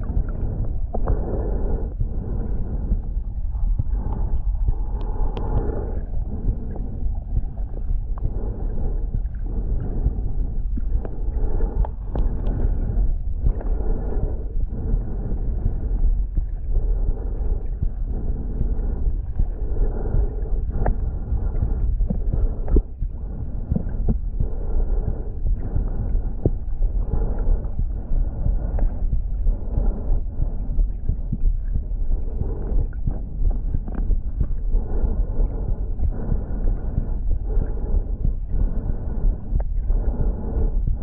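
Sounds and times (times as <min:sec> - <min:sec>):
muffled underwater rumble: 0:00.0 - 0:41.0.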